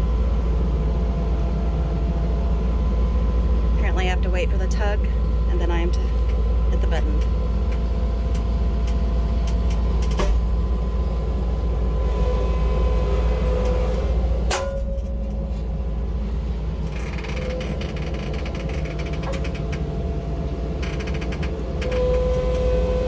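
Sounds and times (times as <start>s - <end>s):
heavy machine engine rumbling: 0.0s - 23.0s.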